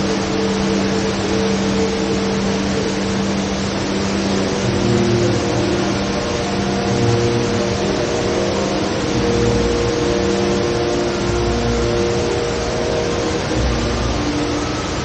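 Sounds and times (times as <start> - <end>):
indoor waterfall rushing: 0.0 - 15.0
low steady hums: 0.0 - 15.0.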